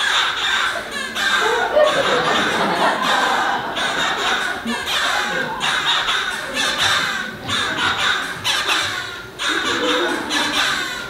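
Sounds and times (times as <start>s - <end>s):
harsh bird squawking and cawing: 0.0s - 11.0s.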